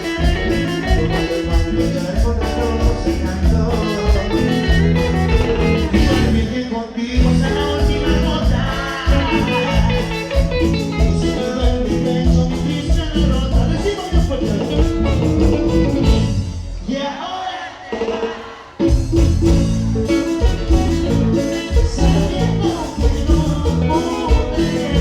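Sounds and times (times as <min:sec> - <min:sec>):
steady percussion beat: 0:00.0 - 0:06.5, 0:07.2 - 0:17.0, 0:17.9 - 0:25.0
bass line: 0:00.0 - 0:16.9, 0:18.8 - 0:25.0
guitar: 0:00.0 - 0:25.0.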